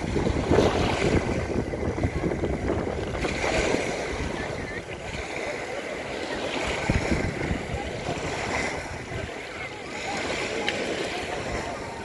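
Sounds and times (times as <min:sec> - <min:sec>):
faint distant voices: 0:00.0 - 0:12.0
small lapping waves: 0:00.0 - 0:12.0
wind buffeting microphone: 0:00.0 - 0:12.0.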